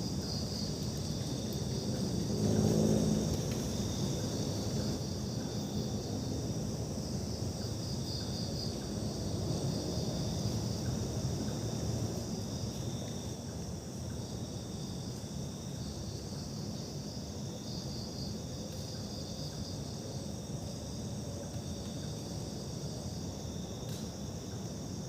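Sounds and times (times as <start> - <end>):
crickets and insects trilling: 0.0 - 25.0.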